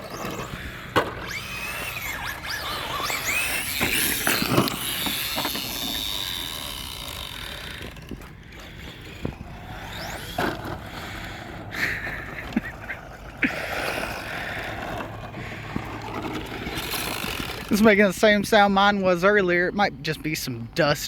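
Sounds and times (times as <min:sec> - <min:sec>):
electric motor whine: 0:00.0 - 0:18.0
tyres scraping on dirt: 0:00.0 - 0:21.0.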